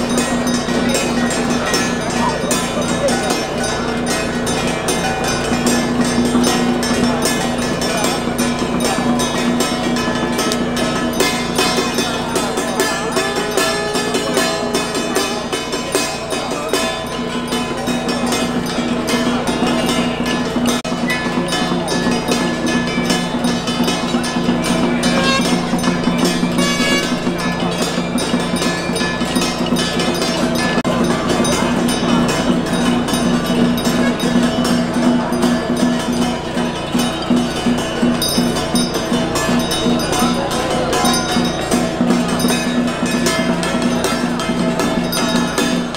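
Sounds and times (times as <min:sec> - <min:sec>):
metal percussion struck rapidly: 0:00.0 - 0:45.9
steady ringing tone: 0:00.0 - 0:45.9
wavering melody line: 0:00.0 - 0:45.9.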